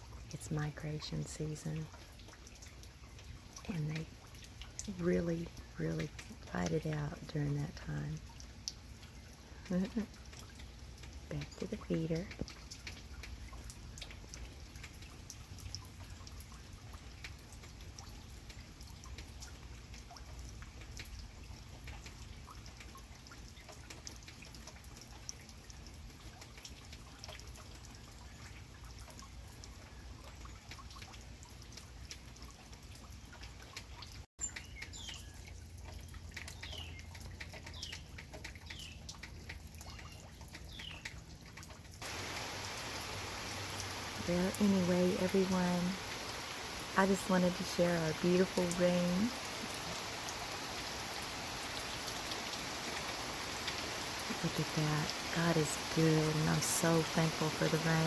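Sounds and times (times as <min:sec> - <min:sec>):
light rain dripping on leaves: 0:00.0 - 0:58.0.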